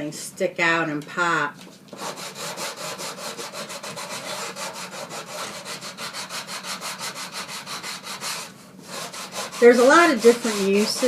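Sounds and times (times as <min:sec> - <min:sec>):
sanding block scratching cardstock: 0:02.0 - 0:11.0.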